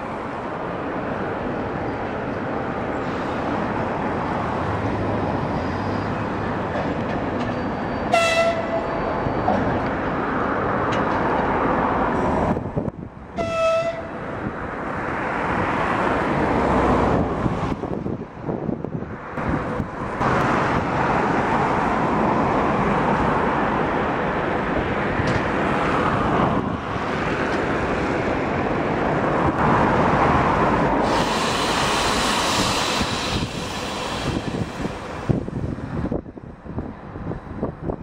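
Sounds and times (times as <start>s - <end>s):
diesel locomotive engines running: 0.0s - 38.0s.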